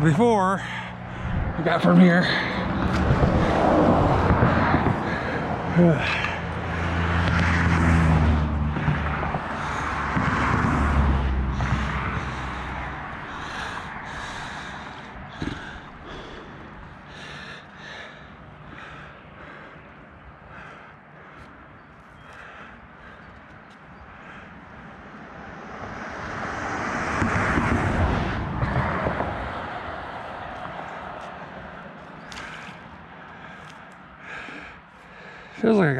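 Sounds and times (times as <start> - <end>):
road traffic passing: 0.0 - 35.9.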